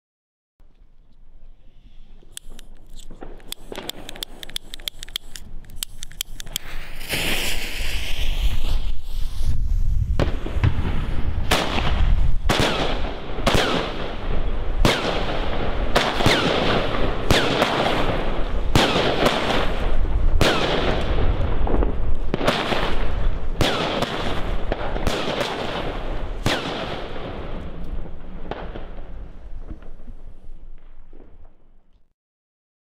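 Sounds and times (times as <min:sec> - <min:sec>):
firework crackle: 0:02.4 - 0:31.7
firework bangs: 0:03.1 - 0:04.8, 0:06.2 - 0:31.6.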